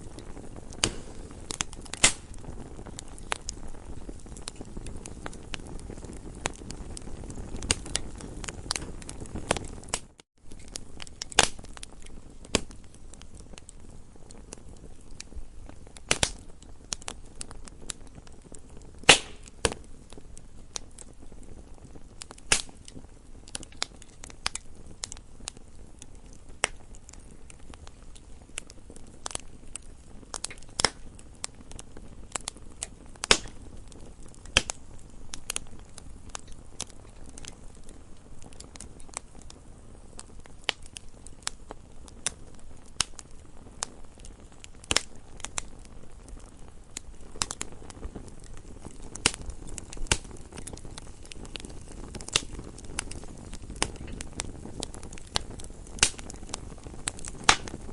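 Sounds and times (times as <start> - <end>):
campfire crackling and popping: 0.0 - 57.9
low rumble of flames: 0.0 - 57.9.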